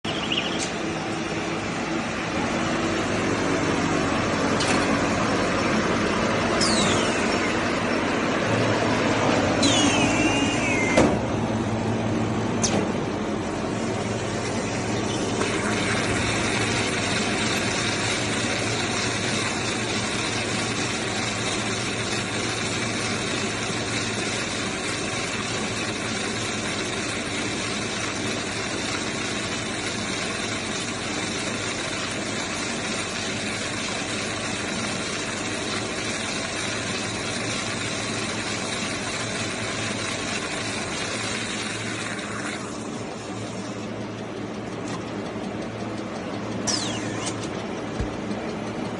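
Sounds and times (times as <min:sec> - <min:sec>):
feed-processing machine running: 0:00.0 - 0:48.9.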